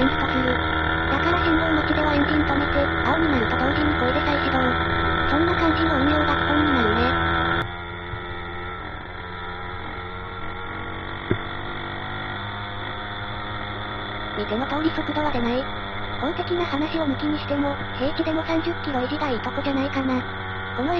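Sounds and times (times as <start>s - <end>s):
two-stroke engine hum: 0.0s - 20.9s.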